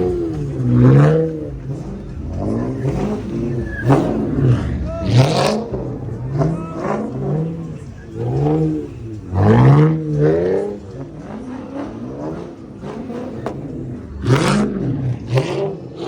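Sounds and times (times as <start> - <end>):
car engine revving: 0.0 - 16.0
noisy rush: 0.0 - 16.0.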